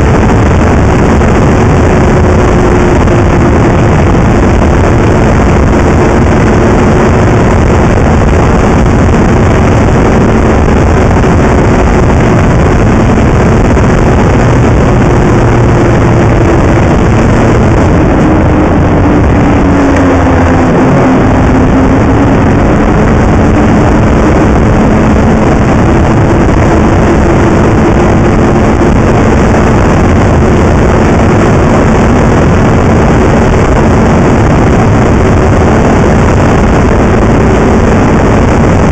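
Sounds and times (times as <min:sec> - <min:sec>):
snowmobile engine running: 0:00.0 - 0:38.9
wind rushing over microphone: 0:00.0 - 0:38.9.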